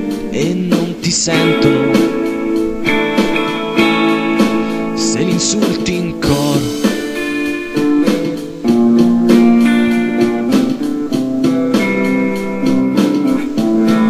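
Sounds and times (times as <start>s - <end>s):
guitar playing chords: 0.0s - 14.0s.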